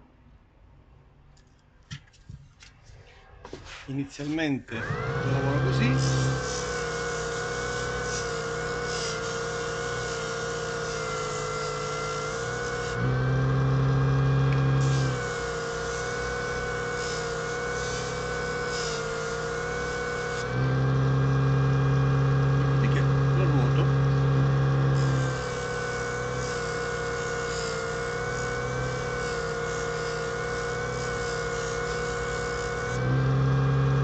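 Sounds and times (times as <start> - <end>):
gritty sanding scrape: 3.5 - 34.0
disc sander motor hum: 4.8 - 34.0.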